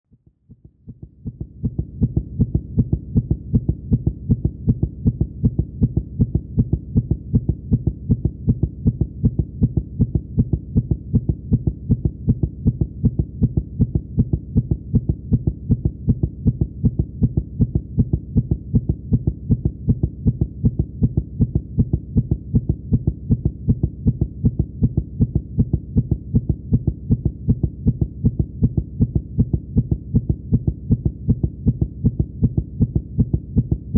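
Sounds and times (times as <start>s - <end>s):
fast heartbeat: 0.1s - 33.9s.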